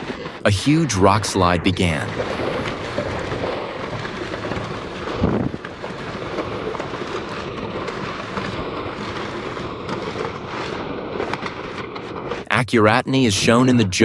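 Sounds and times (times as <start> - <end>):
wind buffeting microphone: 0.0 - 12.5
rock slide rumbling: 0.0 - 12.6.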